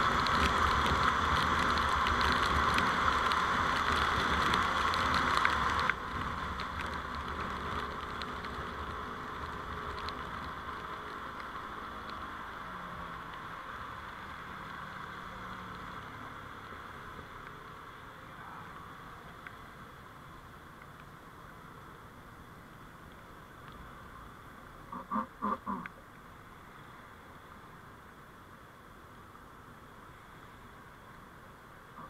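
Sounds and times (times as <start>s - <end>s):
road and traffic noise: 0.0s - 32.0s.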